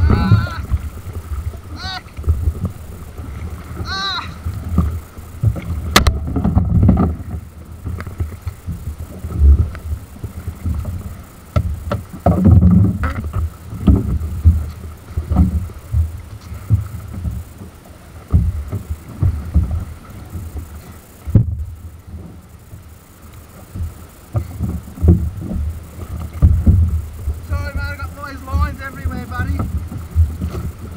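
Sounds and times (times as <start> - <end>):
water slapping a kayak: 0.0 - 30.9.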